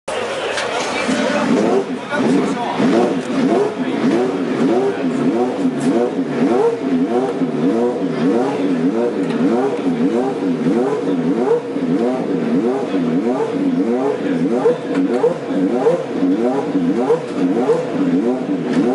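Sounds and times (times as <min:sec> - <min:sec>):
racing car engine throttle blips: 0:00.1 - 0:18.9.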